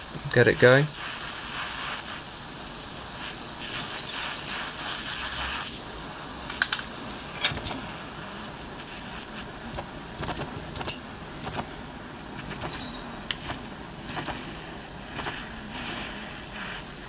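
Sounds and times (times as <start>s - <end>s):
torch flame hissing: 0.0s - 17.0s.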